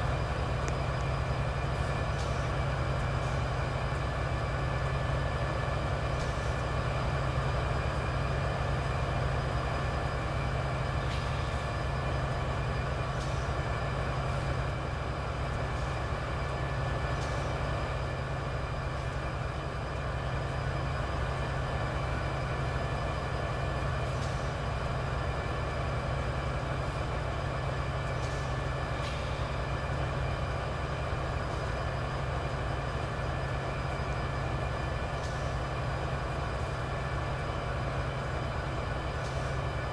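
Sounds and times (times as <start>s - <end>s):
train running: 0.0s - 39.9s.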